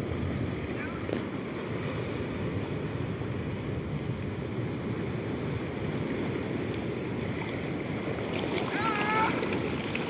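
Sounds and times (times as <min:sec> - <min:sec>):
surf breaking over rocks: 0:00.1 - 0:10.0.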